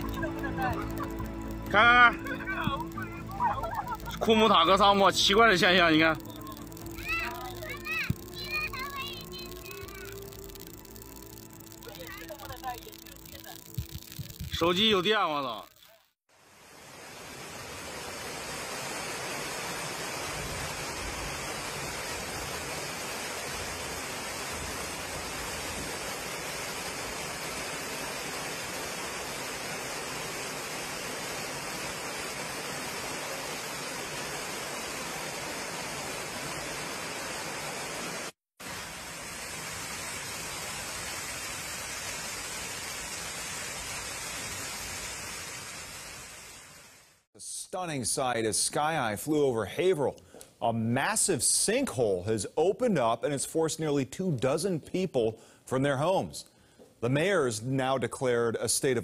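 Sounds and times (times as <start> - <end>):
floodwater rushing: 0.0 - 47.3.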